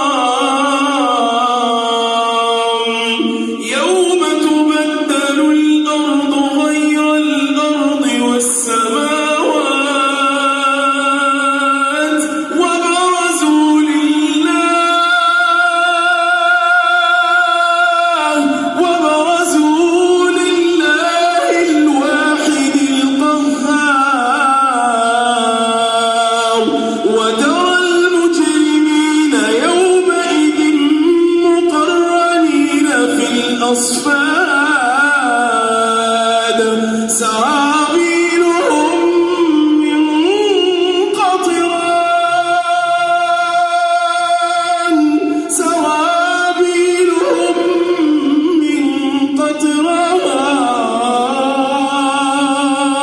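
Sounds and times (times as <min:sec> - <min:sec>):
person reciting melodically: 0:00.0 - 0:53.0.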